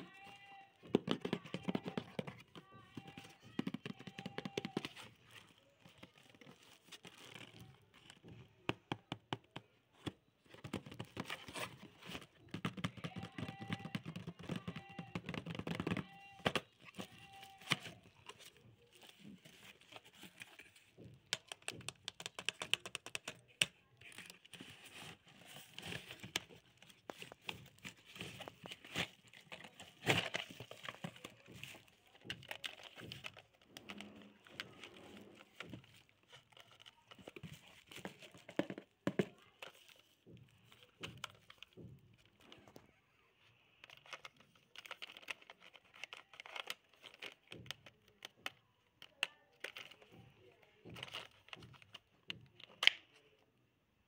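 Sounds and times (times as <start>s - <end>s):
cardboard and plastic crinkling: 0.0s - 9.1s, 10.0s - 42.9s, 43.7s - 53.2s.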